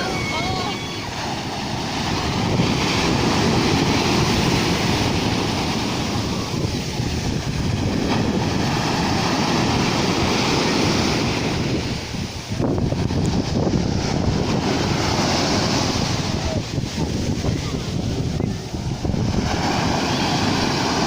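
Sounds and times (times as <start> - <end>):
surf washing onto shore: 0.0 - 21.0
wind buffeting microphone: 0.0 - 21.0.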